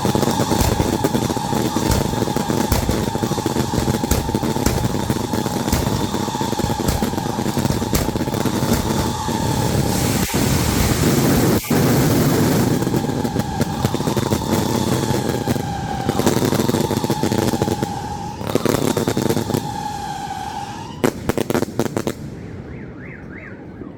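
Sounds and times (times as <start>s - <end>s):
fireworks crackling and hissing: 0.0s - 22.4s
fireworks bangs: 0.0s - 22.7s
fireworks whistling: 0.0s - 22.7s.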